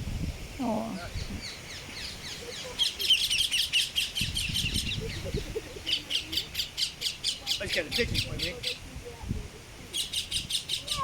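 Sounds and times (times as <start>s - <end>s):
birds chirping: 0.6s - 8.8s, 9.9s - 11.0s.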